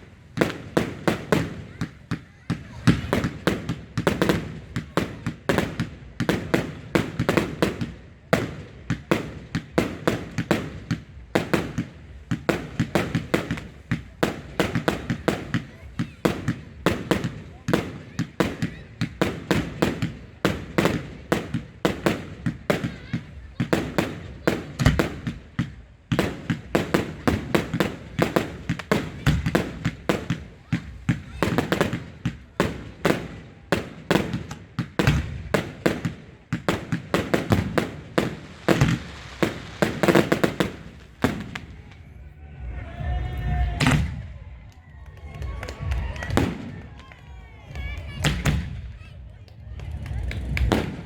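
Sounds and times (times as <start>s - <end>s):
fireworks banging: 0.0s - 51.0s.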